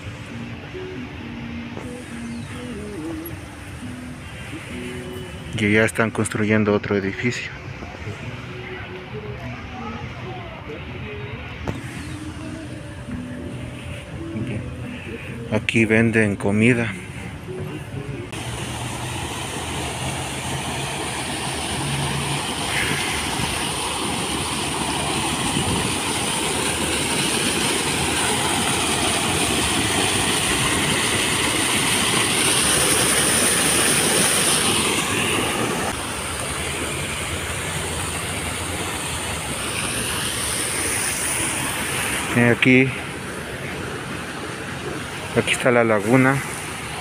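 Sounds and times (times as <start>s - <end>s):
fountain water splashing: 0.0s - 47.0s.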